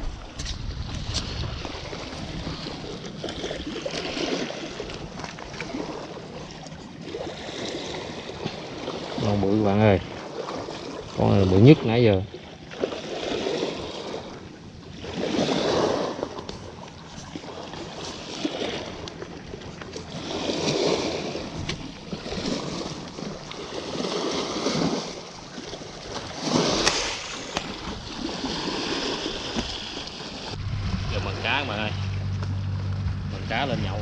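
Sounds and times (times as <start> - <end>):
sea water lapping and sloshing: 0.0 - 34.0.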